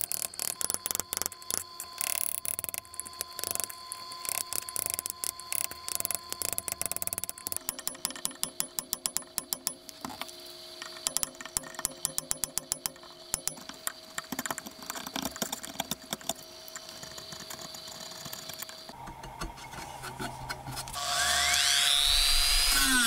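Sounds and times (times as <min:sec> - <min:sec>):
rotary tool whining: 0:00.0 - 0:10.2, 0:10.8 - 0:13.8, 0:16.7 - 0:23.0.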